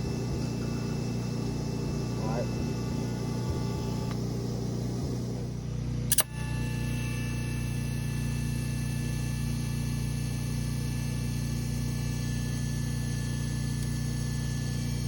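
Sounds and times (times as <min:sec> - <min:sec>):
engine humming steadily: 0:00.0 - 0:15.0.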